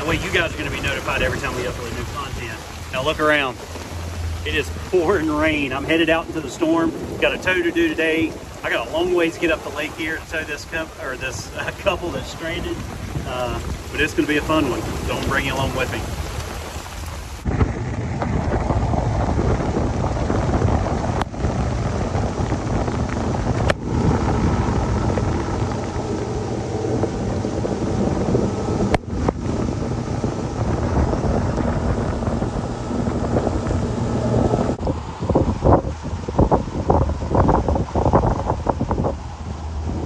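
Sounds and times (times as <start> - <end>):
boat engine running: 0.0 - 40.0
wind buffeting microphone: 0.0 - 40.0.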